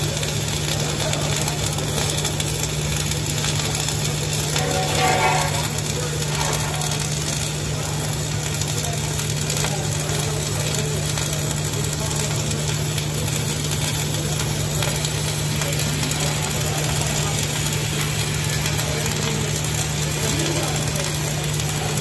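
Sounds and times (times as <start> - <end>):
welding arc crackle and hiss: 0.0 - 22.0.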